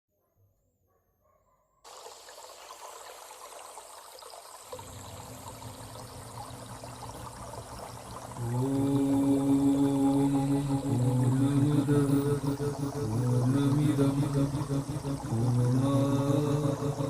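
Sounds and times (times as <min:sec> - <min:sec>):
water flowing: 0:01.9 - 0:17.0.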